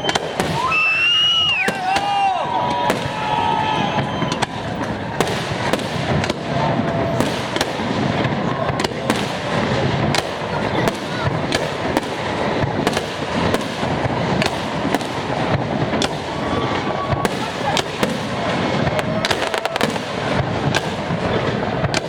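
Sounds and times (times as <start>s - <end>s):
fireworks shells exploding: 0.0s - 22.0s.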